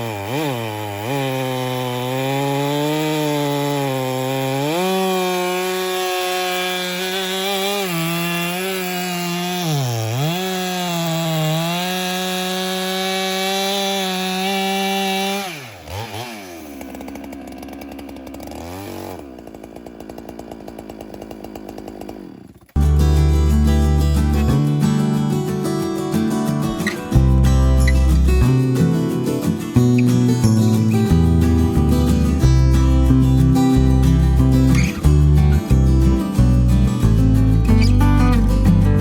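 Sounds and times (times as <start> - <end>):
chainsaw revving and idling: 0.0 - 39.0.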